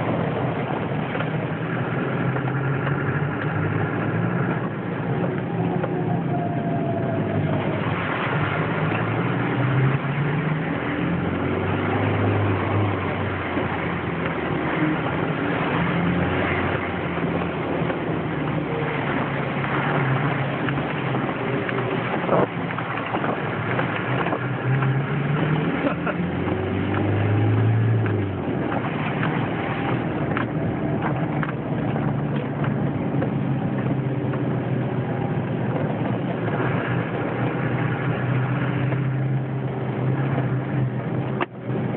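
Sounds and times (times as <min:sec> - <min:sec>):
tyres on wet road: 0:00.0 - 0:41.9.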